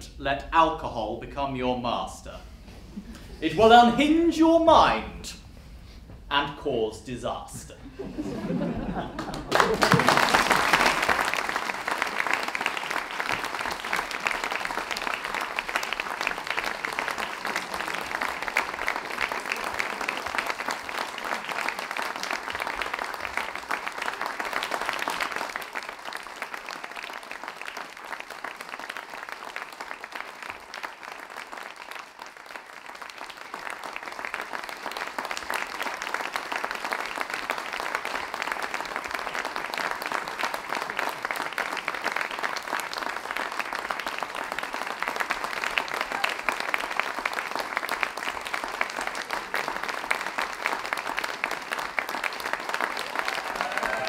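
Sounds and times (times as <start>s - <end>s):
audience applauding: 8.0s - 54.0s.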